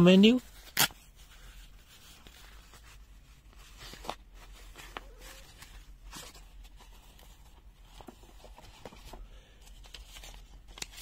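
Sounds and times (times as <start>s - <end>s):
faint packaging rustling: 0.2s - 11.0s.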